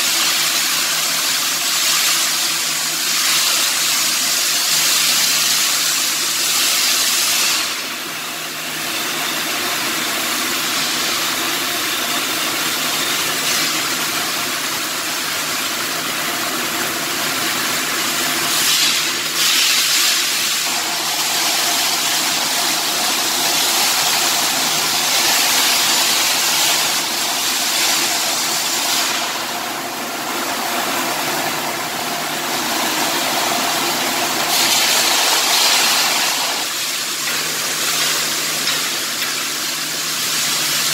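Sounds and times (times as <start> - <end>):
welding arc hissing and crackling: 0.0 - 40.9.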